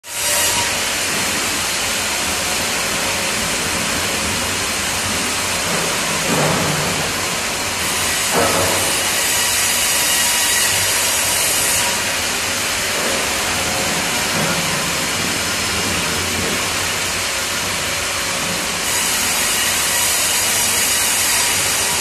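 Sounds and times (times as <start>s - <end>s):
band sawmill running: 0.0s - 22.0s.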